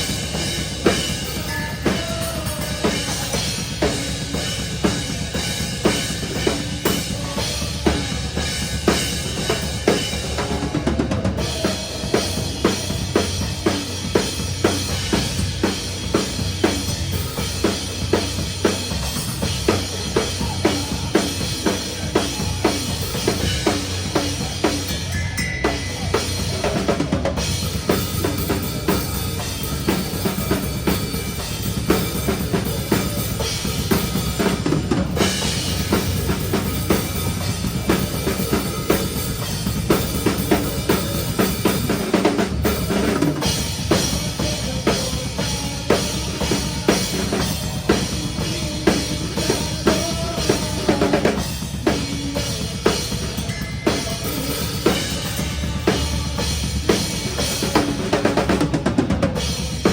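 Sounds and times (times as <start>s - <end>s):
metal band music: 0.0s - 59.9s.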